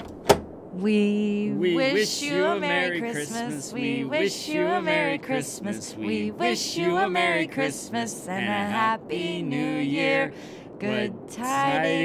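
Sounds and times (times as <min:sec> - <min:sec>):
man and woman singing: 0:00.8 - 0:12.0.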